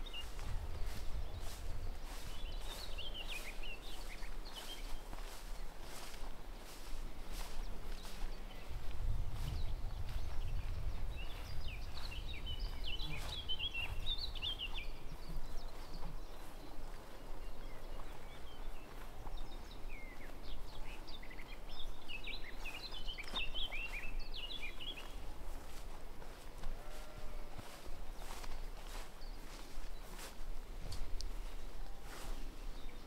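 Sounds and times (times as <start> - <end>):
faint footsteps: 0.0 - 33.0
songbird singing: 0.0 - 33.0.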